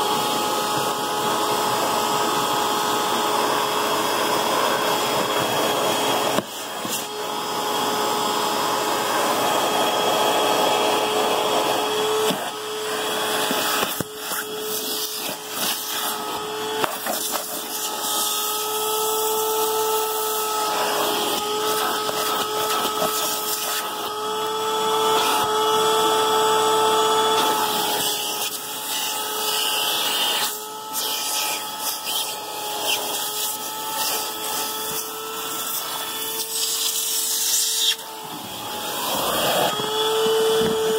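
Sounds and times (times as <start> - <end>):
vacuum cleaner motor whine: 0.0 - 40.9.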